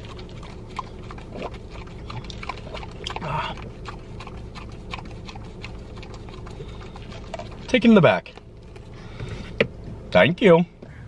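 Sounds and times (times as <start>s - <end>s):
dog licking and mouth smacks: 0.0s - 8.9s.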